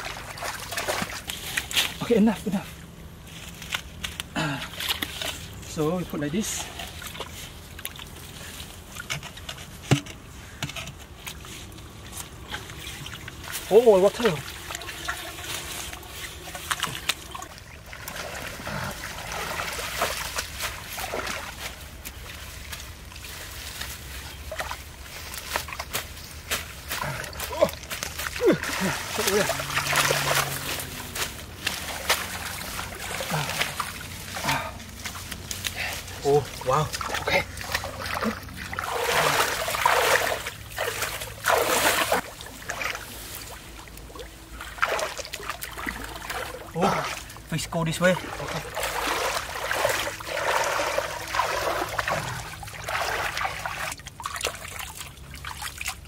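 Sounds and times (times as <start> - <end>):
hands splashing in muddy water: 0.0 - 2.0, 11.5 - 47.5, 48.2 - 56.0
trickling water: 0.0 - 2.3, 4.1 - 56.0
water plants pulled up: 0.0 - 56.0.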